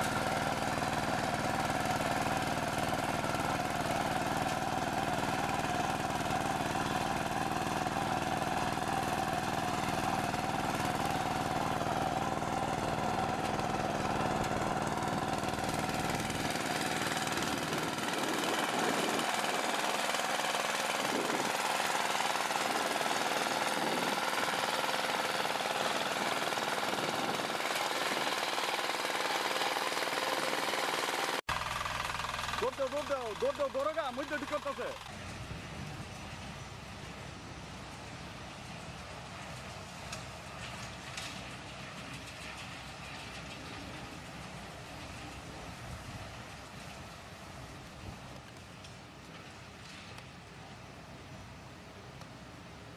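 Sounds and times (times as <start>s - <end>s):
farm machine engine running: 0.0s - 50.9s.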